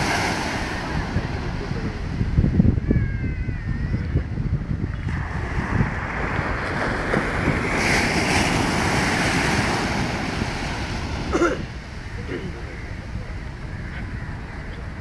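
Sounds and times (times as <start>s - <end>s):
waves breaking on sand: 0.0s - 2.8s, 4.2s - 15.0s
wind buffeting microphone: 0.0s - 15.0s.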